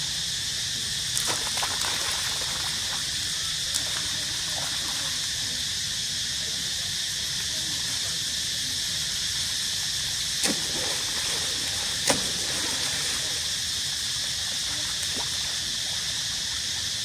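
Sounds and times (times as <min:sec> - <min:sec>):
high hiss: 0:00.0 - 0:17.0.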